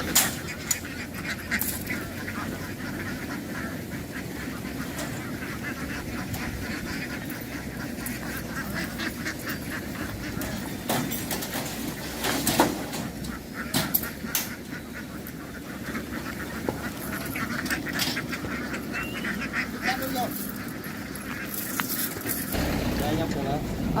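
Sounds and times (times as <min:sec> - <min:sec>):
ducks quacking: 0:00.0 - 0:21.8, 0:22.5 - 0:24.0.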